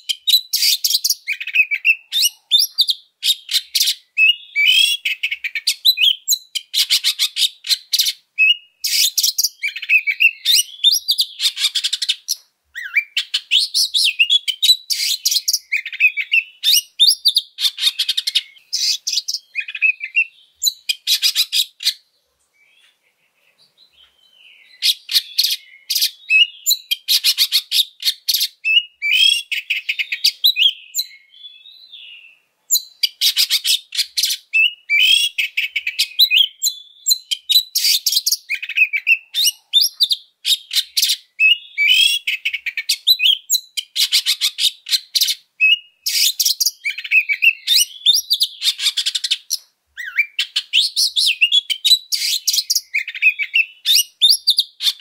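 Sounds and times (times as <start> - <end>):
bird singing trills and whistles: 0.0 - 55.0.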